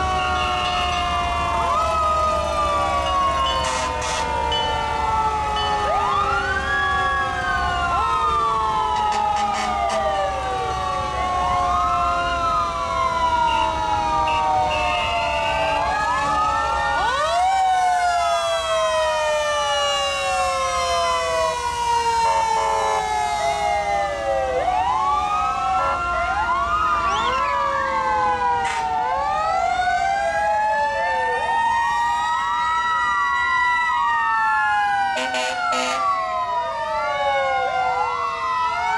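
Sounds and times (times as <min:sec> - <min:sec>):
fire truck sirens wailing: 0:00.0 - 0:38.9.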